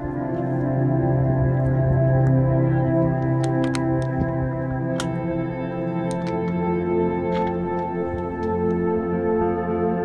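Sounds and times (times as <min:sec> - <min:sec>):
ambient music with sustained chords: 0:00.0 - 0:10.0.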